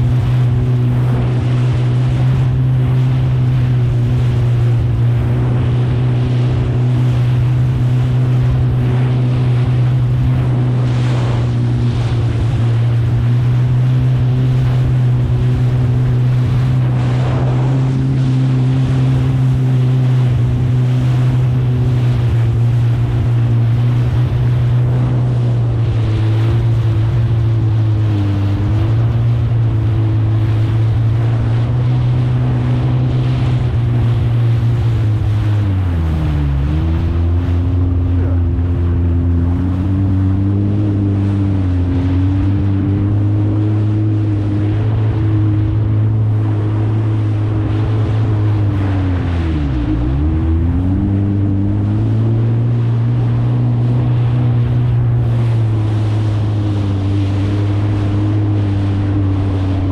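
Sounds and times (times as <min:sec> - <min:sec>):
jet ski engine running: 0:00.0 - 0:59.9
water splashes: 0:00.0 - 0:59.9
water washing against hull: 0:00.0 - 0:59.9
wind buffeting microphone: 0:00.0 - 0:59.9.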